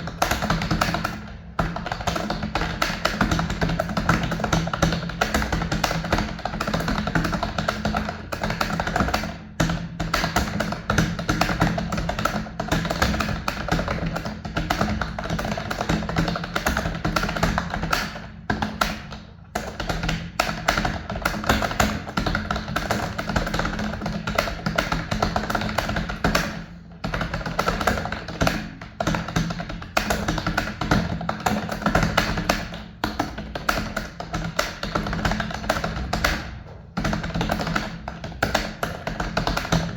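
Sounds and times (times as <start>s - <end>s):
typing on a computer keyboard: 0.0s - 39.9s.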